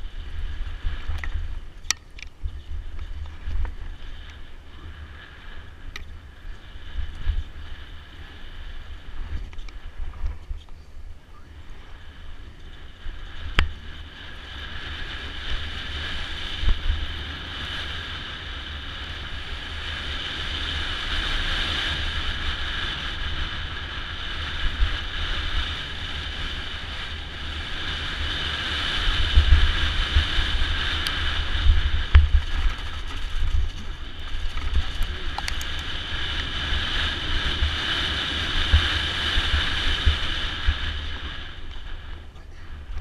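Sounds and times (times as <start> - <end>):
bike rattling on rough trail: 0.0 - 11.0, 11.6 - 43.0
wind on camera microphone: 0.0 - 43.0.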